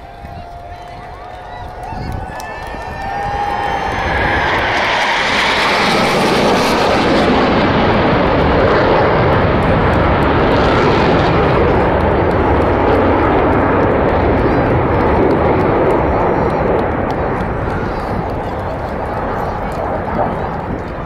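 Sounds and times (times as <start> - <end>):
jet planes passing low overhead: 0.0 - 21.0.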